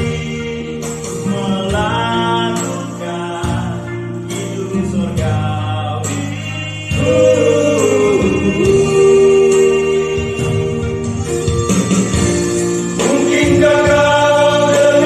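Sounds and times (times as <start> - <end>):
instrumental accompaniment: 0.0 - 15.0
vocal group singing gospel: 0.0 - 15.0.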